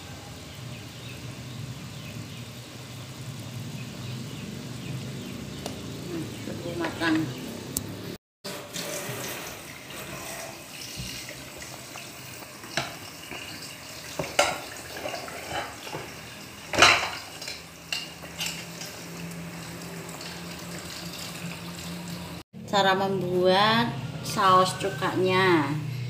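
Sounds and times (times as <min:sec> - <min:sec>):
water boiling in a pot: 0:00.0 - 0:22.4.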